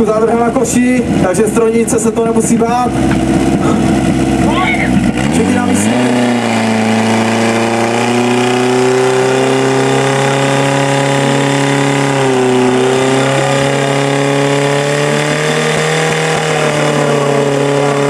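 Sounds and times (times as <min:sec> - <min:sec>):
petrol pump engine at full throttle: 0:00.0 - 0:18.0.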